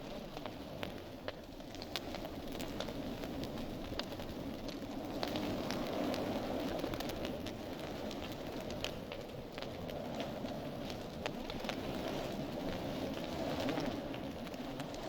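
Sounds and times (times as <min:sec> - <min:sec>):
fire crackling and popping: 0:00.0 - 0:15.0
fire flames rushing: 0:00.0 - 0:15.0.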